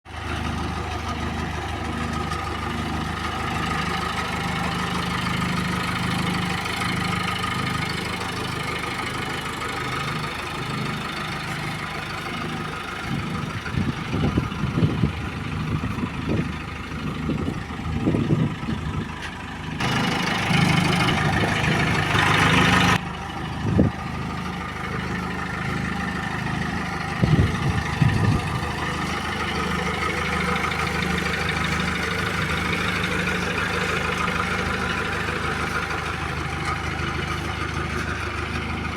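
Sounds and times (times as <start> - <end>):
diesel engine idling: 0.1 - 38.9
clunks: 0.2 - 38.9.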